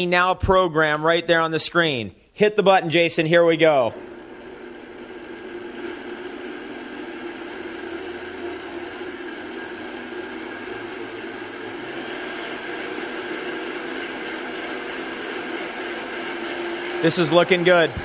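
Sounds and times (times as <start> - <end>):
blender running: 3.6 - 18.0.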